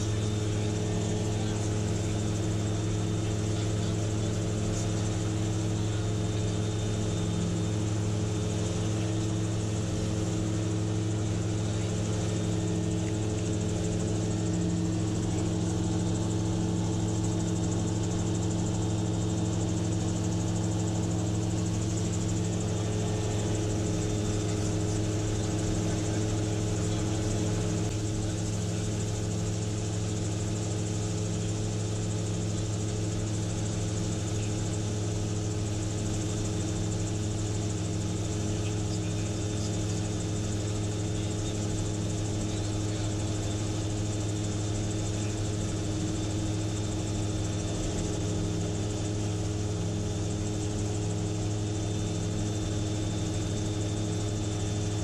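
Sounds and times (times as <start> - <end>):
gyrocopter engine droning: 0.0 - 55.0.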